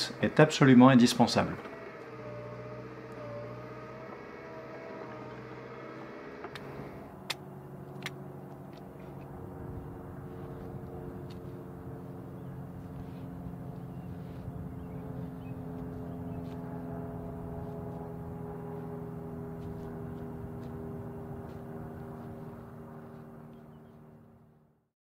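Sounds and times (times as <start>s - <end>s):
engine idling: 0.0s - 24.7s.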